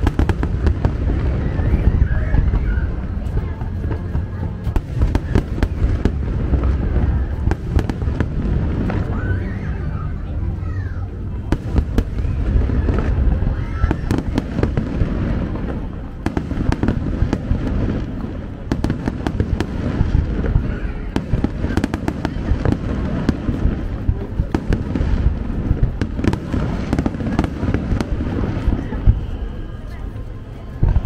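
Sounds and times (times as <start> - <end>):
firework crackles and bangs: 0.0 - 31.0
rumble of firework bursts: 0.0 - 31.0.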